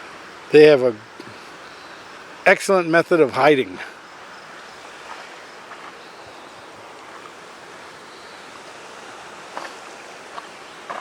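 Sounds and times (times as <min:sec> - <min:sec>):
creek rushing: 0:00.0 - 0:11.0.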